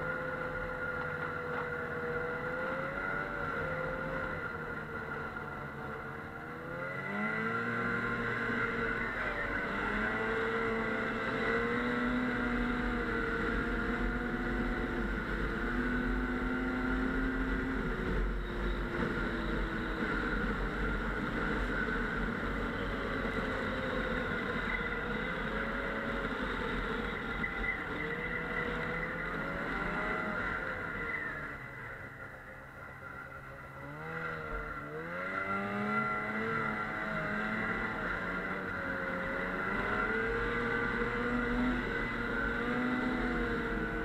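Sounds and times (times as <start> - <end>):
snowmobile engine running: 0.0 - 44.0.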